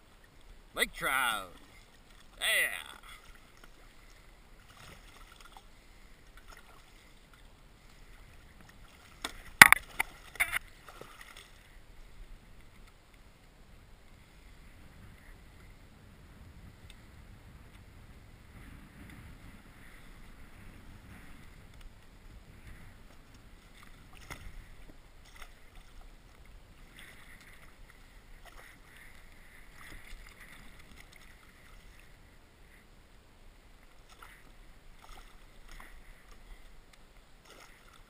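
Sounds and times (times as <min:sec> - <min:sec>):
water lapping against kayak hull: 0:00.0 - 0:38.0.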